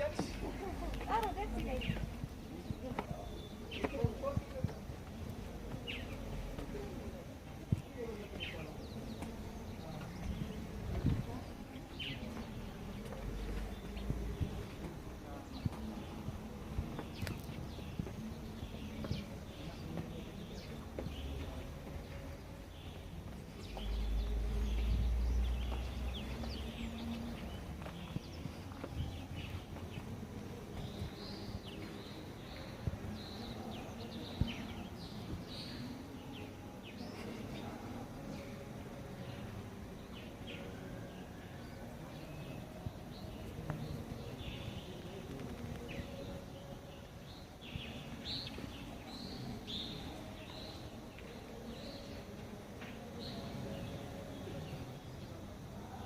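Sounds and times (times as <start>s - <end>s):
low background noise: 0.0s - 56.0s
small birds chirping: 0.0s - 56.0s.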